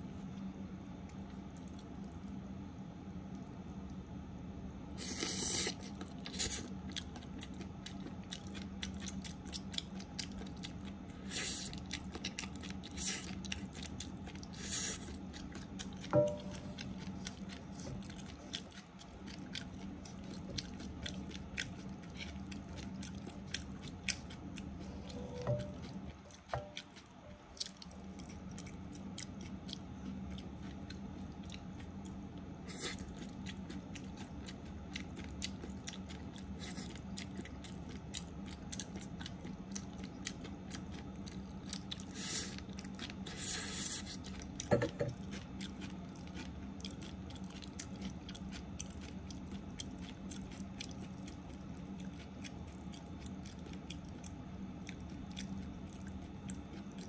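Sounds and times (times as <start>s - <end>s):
steady low hum: 0.0s - 57.0s
person chewing spaghetti: 0.2s - 2.5s, 4.9s - 57.0s.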